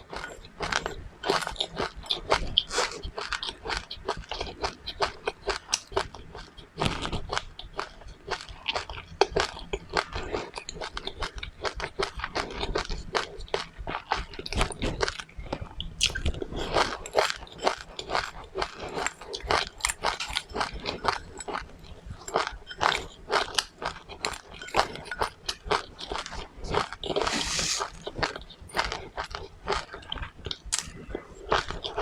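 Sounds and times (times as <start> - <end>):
chewing crunchy seeds: 0.0 - 32.0.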